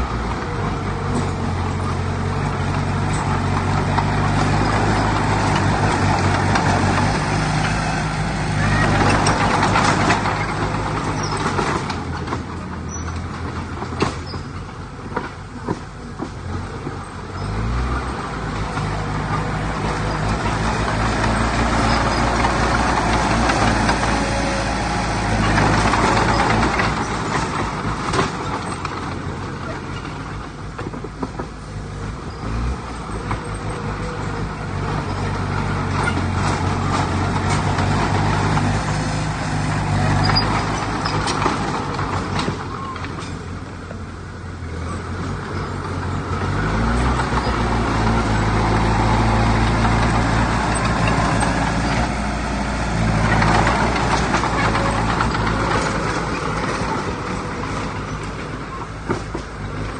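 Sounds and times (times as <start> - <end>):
diesel earthmoving machinery running: 0.0 - 59.9.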